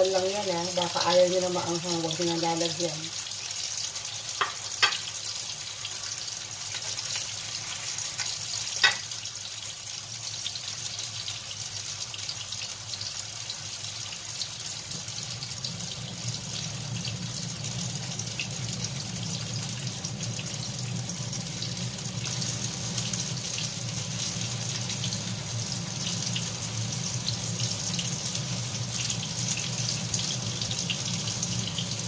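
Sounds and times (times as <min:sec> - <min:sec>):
tofu sizzling in oil: 0:00.0 - 0:32.0.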